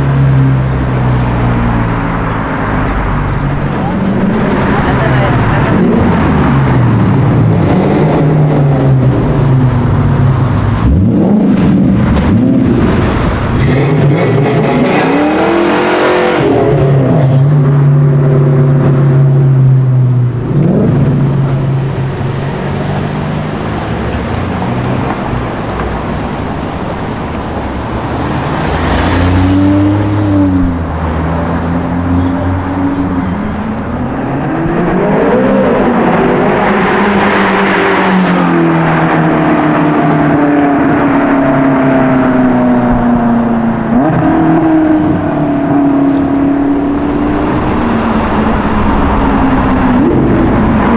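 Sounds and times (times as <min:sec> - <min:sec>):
road noise: 0:00.0 - 0:50.9
sports car engine accelerating: 0:00.0 - 0:50.9.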